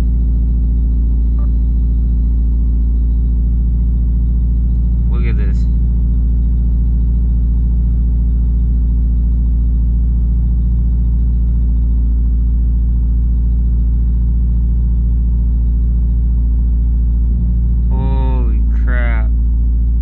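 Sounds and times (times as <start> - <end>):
car engine idling rough: 0.0 - 20.0.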